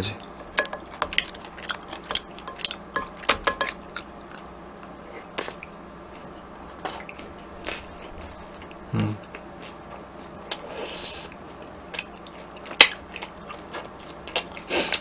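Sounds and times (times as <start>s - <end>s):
crunchy chewing: 0.1s - 15.0s.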